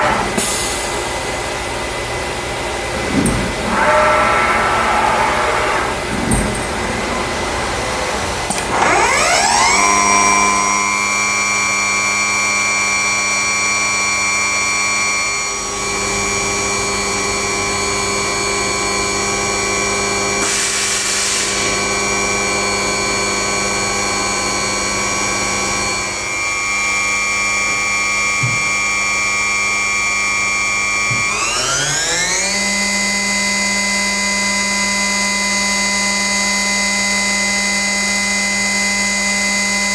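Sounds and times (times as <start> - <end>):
cnc router motor whine: 1.3 - 39.9.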